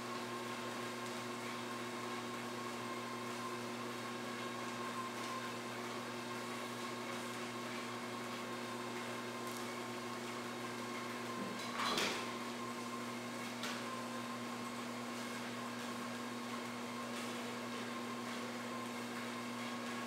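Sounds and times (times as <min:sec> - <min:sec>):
treadmill motor hum and whine: 0:00.0 - 0:20.0.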